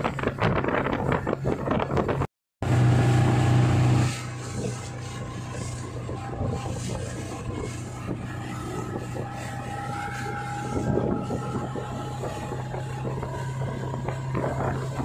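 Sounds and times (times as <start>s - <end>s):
outboard motor humming: 0.0s - 15.0s
water rushing and splashing: 0.0s - 15.0s.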